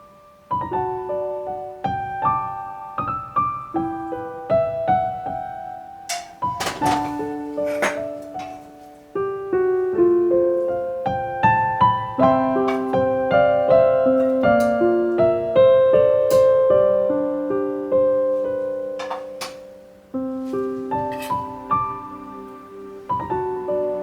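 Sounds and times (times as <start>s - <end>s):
slow gentle piano melody: 0.0s - 24.0s.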